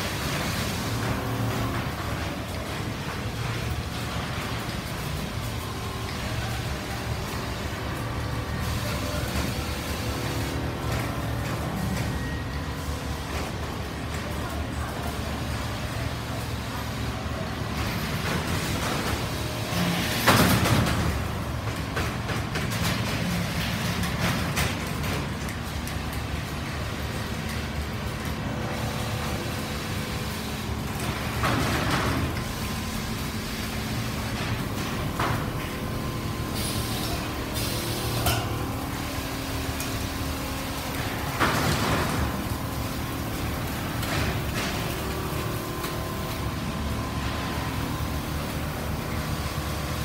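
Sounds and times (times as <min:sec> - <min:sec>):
machines mechanical drone: 0:00.0 - 0:50.0.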